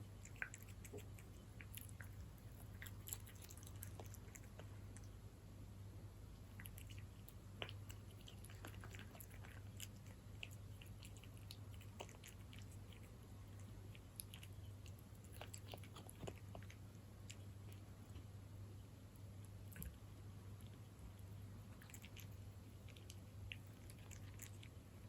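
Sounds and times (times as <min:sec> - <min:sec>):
cat chewing wet food: 0:00.0 - 0:05.2, 0:06.3 - 0:18.4, 0:19.0 - 0:25.0
steady low hum: 0:00.0 - 0:25.0.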